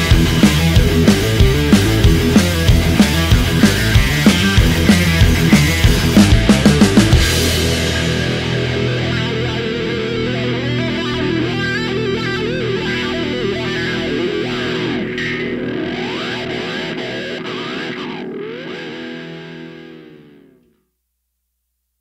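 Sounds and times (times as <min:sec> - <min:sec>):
distorted electric guitar rock music: 0:00.0 - 0:20.8.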